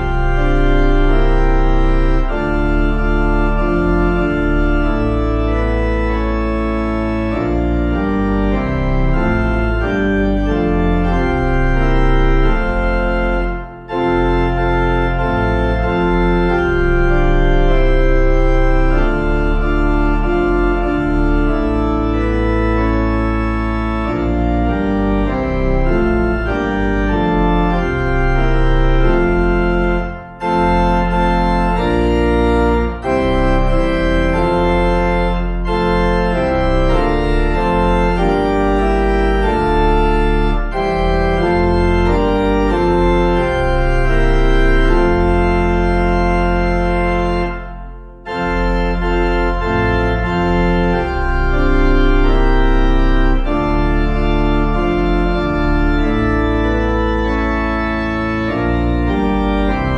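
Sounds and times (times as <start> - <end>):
organ playing a hymn: 0.0 - 59.9.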